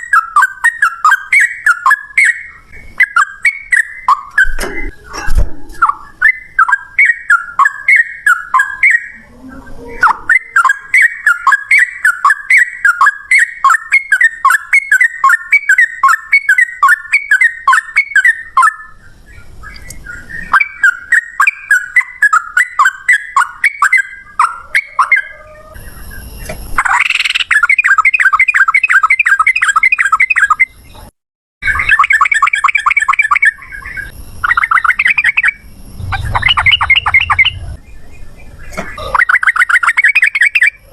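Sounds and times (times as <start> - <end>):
bulbul chattering song: 0.0 - 5.1, 5.8 - 26.2, 31.6 - 40.9.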